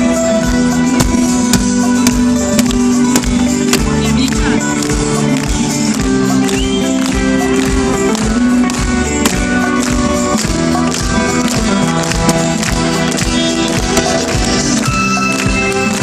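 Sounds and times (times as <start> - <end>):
rock band instrumental: 0.0 - 16.0
steady drum beat: 0.0 - 16.0.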